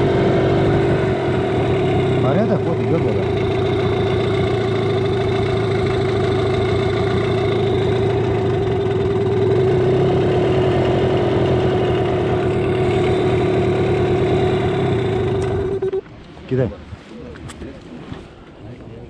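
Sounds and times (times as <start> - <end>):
boat engine idling: 0.0 - 16.2.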